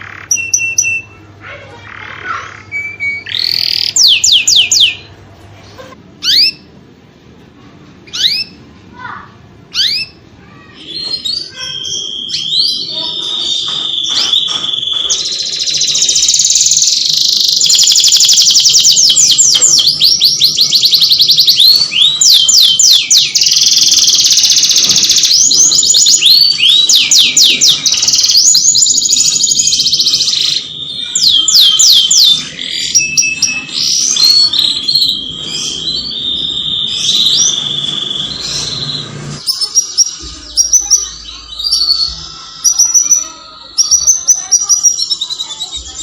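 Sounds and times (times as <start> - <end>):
canary singing: 0.0 - 6.8, 8.0 - 46.0.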